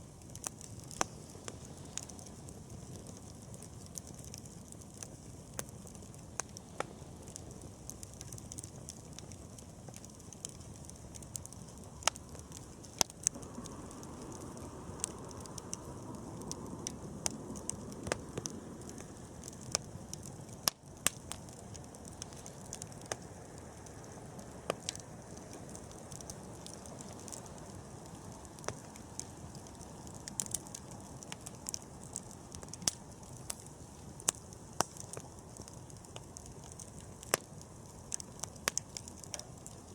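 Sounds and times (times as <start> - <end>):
campfire crackling and popping: 0.0 - 39.9
low rush of fire: 0.0 - 39.9.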